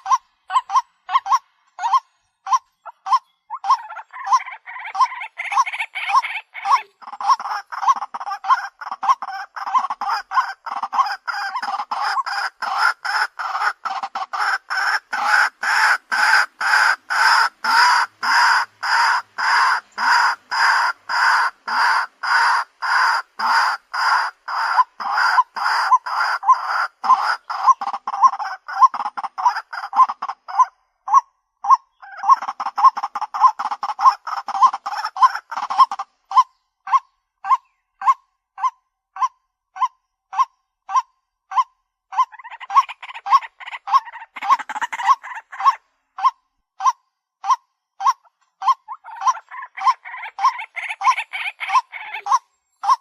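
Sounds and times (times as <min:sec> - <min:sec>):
waterhen calling: 0:00.0 - 0:53.0.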